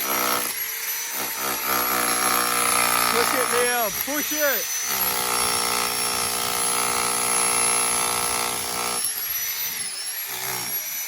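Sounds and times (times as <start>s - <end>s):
electric jackhammer hammering: 0.0s - 11.0s.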